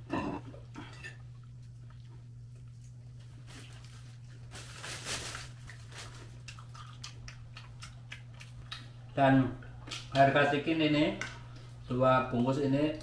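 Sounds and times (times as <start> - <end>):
people chewing and crunching: 0.0 - 10.5
steady low hum: 0.0 - 13.0.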